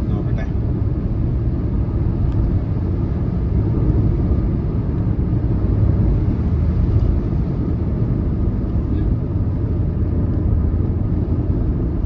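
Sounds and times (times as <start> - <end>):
car driving at road speed: 0.0 - 12.0.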